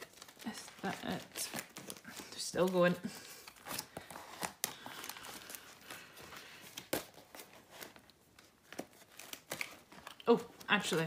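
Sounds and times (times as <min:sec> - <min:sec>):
plastic sleeves rustling: 0:00.0 - 0:11.0.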